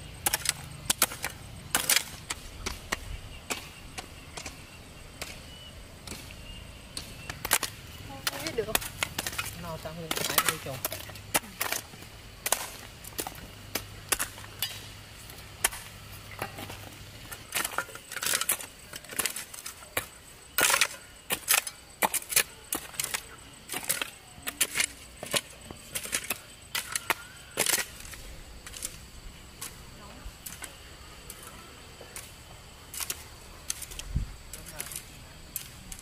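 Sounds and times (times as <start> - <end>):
hand hoe chopping stony soil: 0.2 - 29.0, 32.2 - 36.0.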